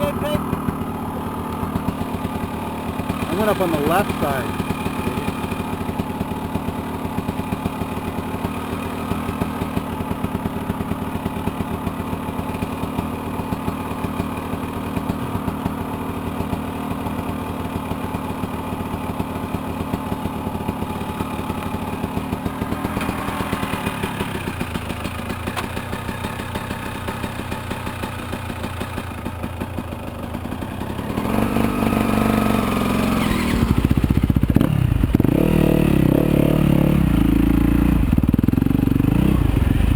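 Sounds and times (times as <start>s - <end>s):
dirt bike engine idling and revving: 0.0s - 39.9s.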